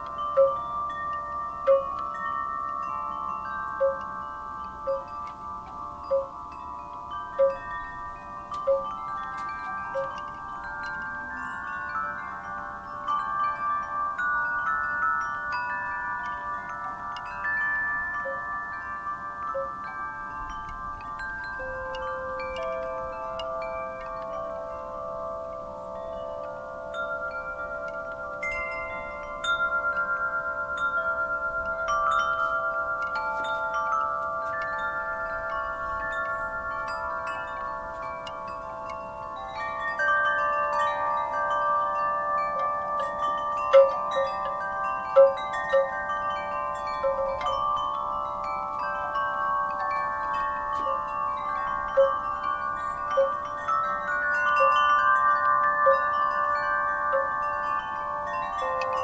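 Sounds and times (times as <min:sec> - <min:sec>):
wind chimes ringing: 0:00.0 - 0:59.0.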